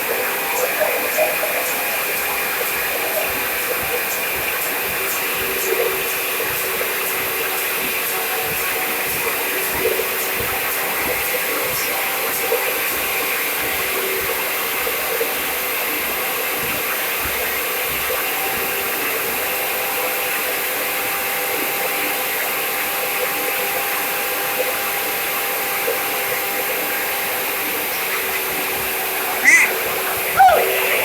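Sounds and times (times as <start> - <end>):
constant machine hum: 0.0 - 31.0.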